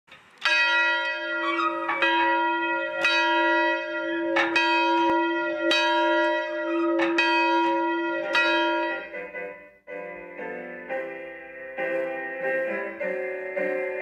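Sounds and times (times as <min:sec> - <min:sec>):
large church bell ringing: 0:00.4 - 0:14.0.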